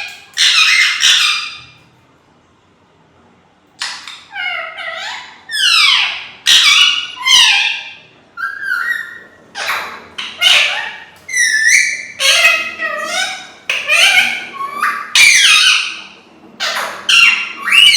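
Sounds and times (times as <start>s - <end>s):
parrot calling: 0.0s - 1.8s, 3.8s - 17.9s.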